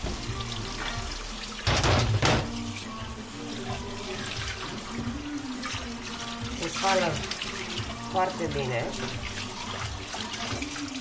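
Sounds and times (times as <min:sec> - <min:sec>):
tap water running into sink: 0:00.0 - 0:11.0
water splashing: 0:00.0 - 0:11.0.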